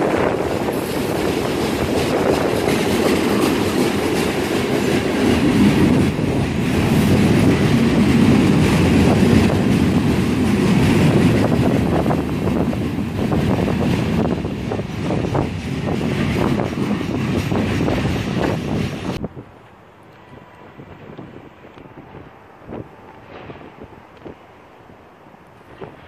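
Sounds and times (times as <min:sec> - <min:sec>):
wheels clickety-clack over track: 0:00.0 - 0:24.4, 0:25.5 - 0:26.0
freight train wheels rumbling: 0:00.0 - 0:26.0.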